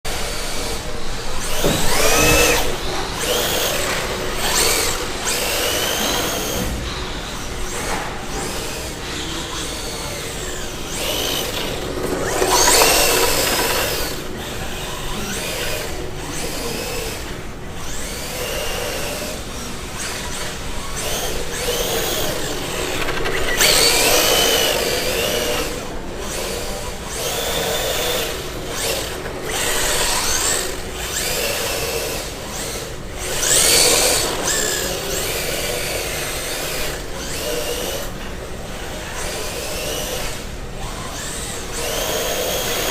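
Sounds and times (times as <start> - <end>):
electric motor whining: 0.2 - 42.9.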